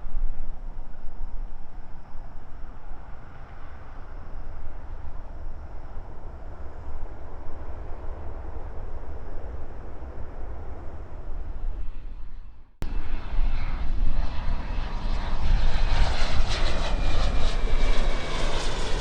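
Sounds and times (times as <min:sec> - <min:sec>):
jet airliner rumble: 0:00.0 - 0:19.0.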